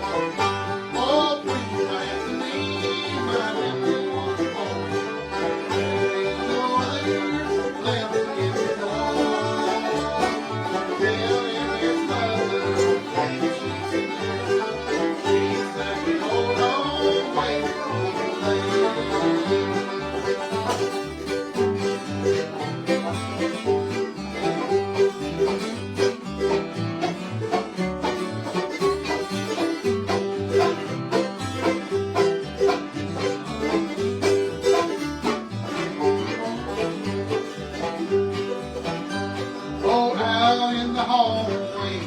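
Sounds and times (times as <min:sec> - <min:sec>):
banjo picking: 0:00.0 - 0:42.0
bass line: 0:00.0 - 0:42.0
guitar picking: 0:00.0 - 0:42.0.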